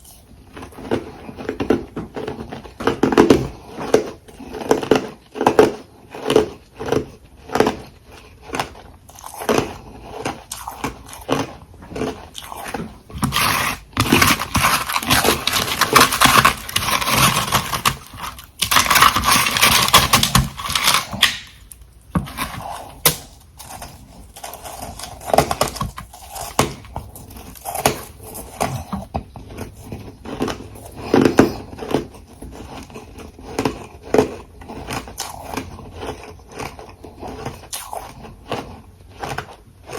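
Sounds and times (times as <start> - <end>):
mouth chewing ice: 0.0 - 39.9.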